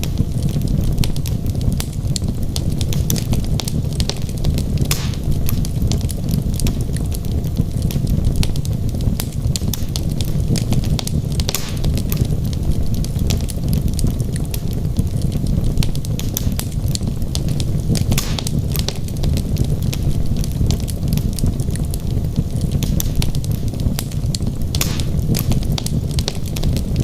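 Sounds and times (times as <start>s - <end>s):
fire crackling and popping: 0.0s - 27.0s
low rumble of fire: 0.0s - 27.0s.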